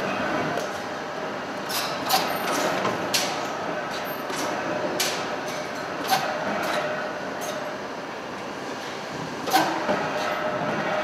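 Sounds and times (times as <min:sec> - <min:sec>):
factory machinery hum: 0:00.0 - 0:11.0.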